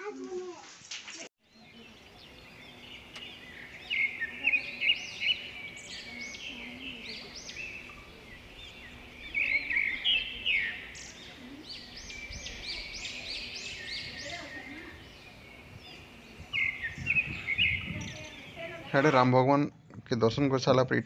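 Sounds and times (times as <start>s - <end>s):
birds chirping: 1.4s - 21.0s.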